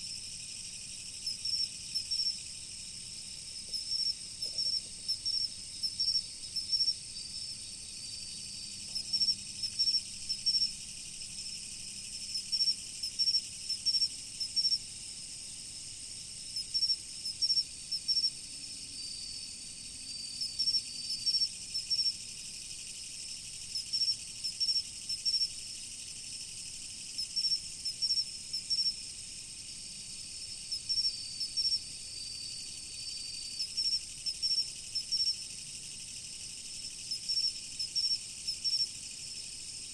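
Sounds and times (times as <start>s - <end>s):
insects chirping: 0.0s - 39.9s
steady high insect hum: 0.0s - 39.9s.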